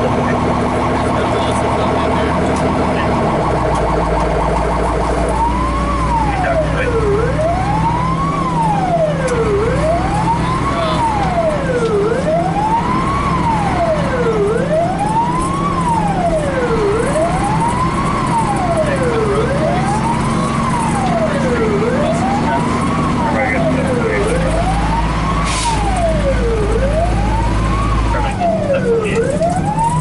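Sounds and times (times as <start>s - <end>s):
engine drone and road noise: 0.0s - 30.0s
fire engine siren wailing: 0.0s - 30.0s.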